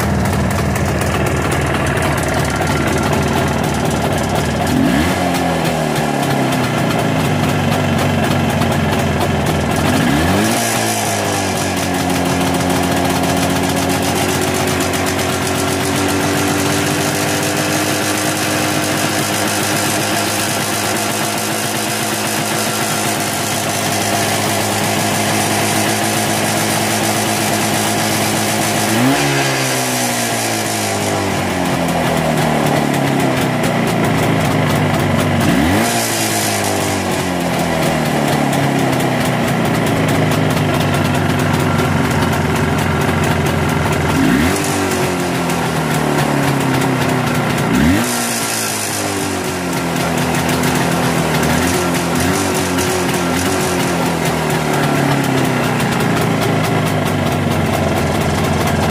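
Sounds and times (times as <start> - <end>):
two-stroke motorcycle engine revving: 0.0 - 58.9.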